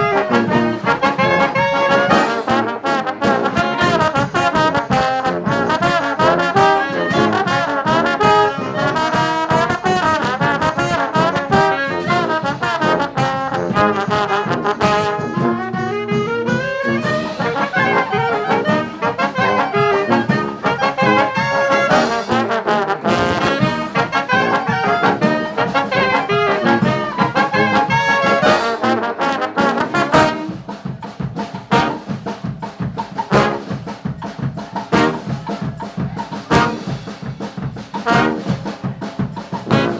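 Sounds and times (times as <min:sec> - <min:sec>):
drums: 0:00.0 - 0:39.9
trumpets and trombones: 0:00.0 - 0:39.9.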